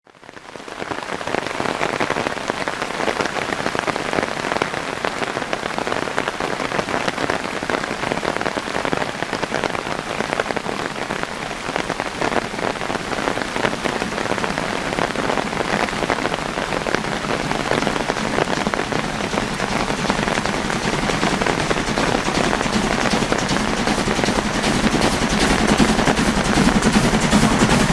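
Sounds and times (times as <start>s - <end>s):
heavy rain pattering: 0.0s - 27.9s.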